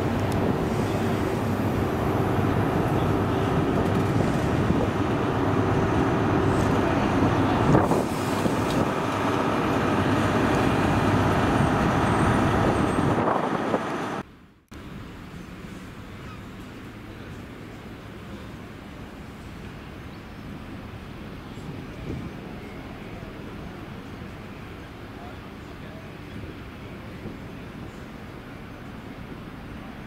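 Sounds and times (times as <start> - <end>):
diesel train engine hum: 0.0 - 30.0
rail noise of passing coaches: 0.0 - 30.0.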